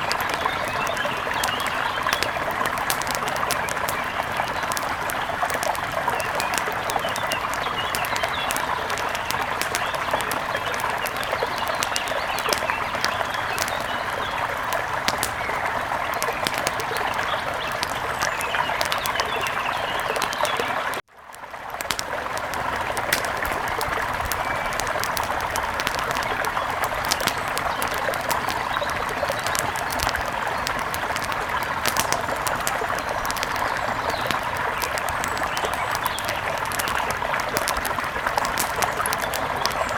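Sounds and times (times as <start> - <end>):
bird calls: 0.0 - 21.0, 22.7 - 39.9
small sharp splashes: 0.0 - 39.9.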